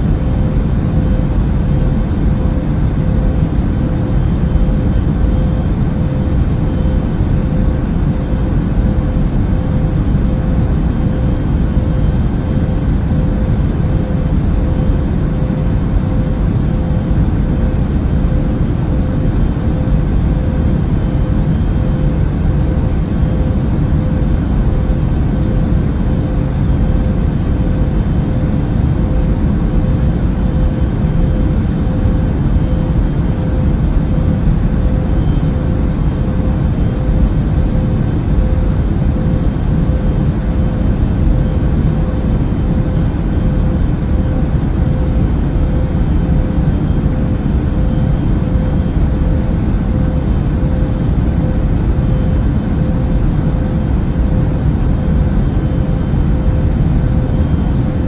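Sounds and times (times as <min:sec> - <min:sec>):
airplane cabin hum: 0:00.0 - 0:58.0
faint constant tone: 0:00.0 - 0:58.0.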